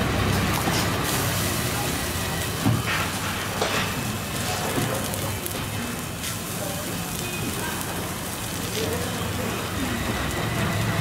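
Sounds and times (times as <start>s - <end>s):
griddle sizzling: 0.0s - 11.0s.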